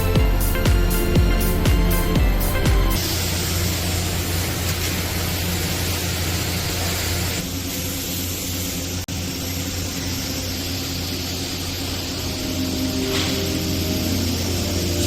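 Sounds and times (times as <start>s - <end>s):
low hum: 0.0s - 15.0s
welding arc hissing: 0.0s - 15.0s.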